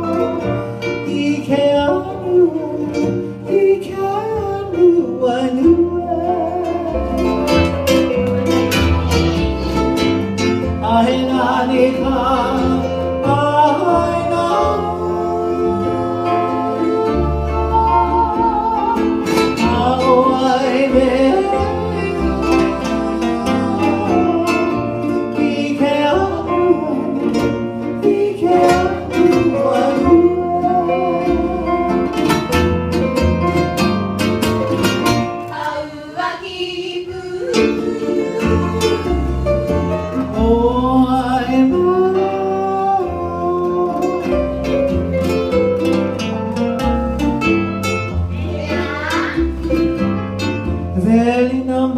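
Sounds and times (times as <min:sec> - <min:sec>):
person singing: 0:00.0 - 0:32.4, 0:35.4 - 0:44.8, 0:48.3 - 0:50.0
plucked strings: 0:00.0 - 0:51.9.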